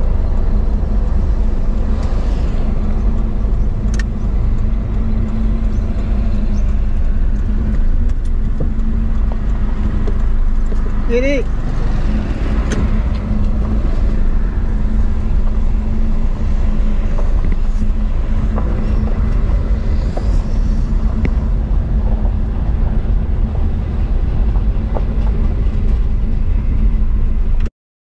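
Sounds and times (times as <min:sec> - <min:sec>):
vehicle driving on dirt road: 0:00.0 - 0:27.7.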